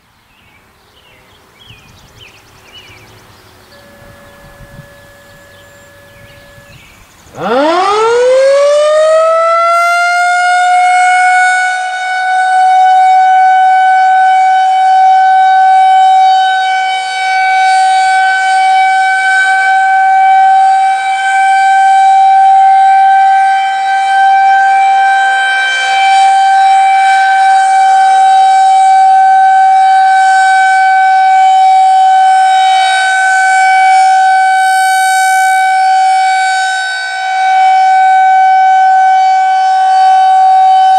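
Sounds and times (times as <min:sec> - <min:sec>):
rotating warning siren: 0:02.0 - 0:40.9.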